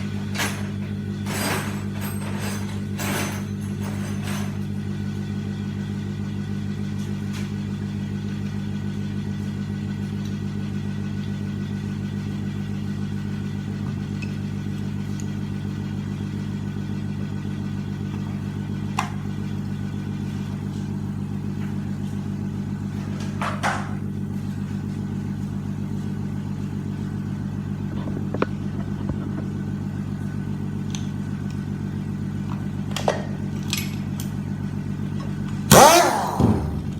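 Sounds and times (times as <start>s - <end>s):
low mechanical drone: 0.0s - 36.9s.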